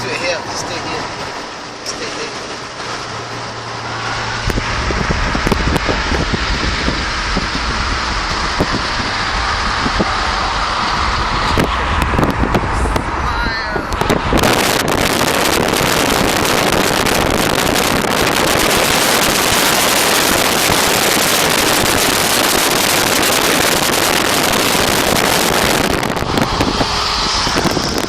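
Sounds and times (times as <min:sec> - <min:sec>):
road roar: 0:00.0 - 0:28.0
wind buffeting microphone: 0:00.0 - 0:28.0.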